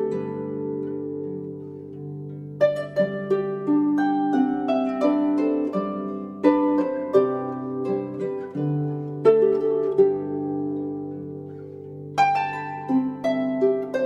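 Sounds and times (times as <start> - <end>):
harp playing slow melody: 0.0 - 14.0.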